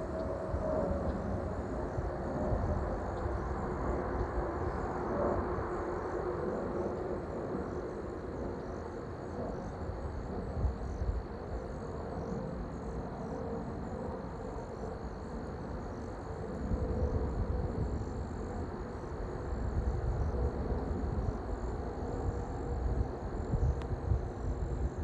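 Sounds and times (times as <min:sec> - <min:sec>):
jet airliner rumble: 0:00.0 - 0:25.0.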